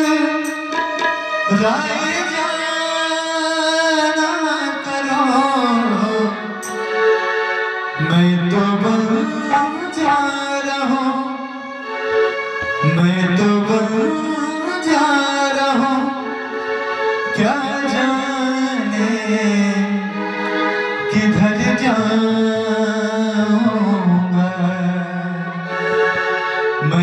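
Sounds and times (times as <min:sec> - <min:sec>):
man singing long held notes: 0:00.0 - 0:06.8, 0:08.0 - 0:11.6, 0:12.7 - 0:16.7, 0:17.3 - 0:26.1, 0:26.8 - 0:27.0.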